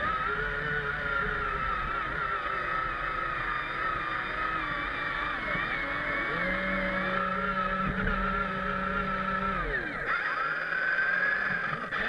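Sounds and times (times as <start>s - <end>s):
electric motors whining: 0.0s - 12.0s
lower motor note: 0.0s - 12.0s.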